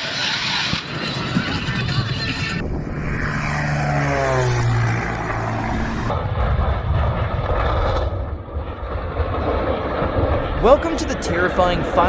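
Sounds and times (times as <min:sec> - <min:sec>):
airplane engine passing by: 0:00.0 - 0:12.0
rough rumbling noise: 0:00.1 - 0:12.0.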